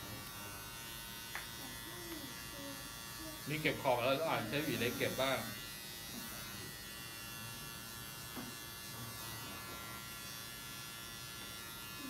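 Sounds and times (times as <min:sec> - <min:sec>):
hair clippers buzzing: 0:00.0 - 0:12.0.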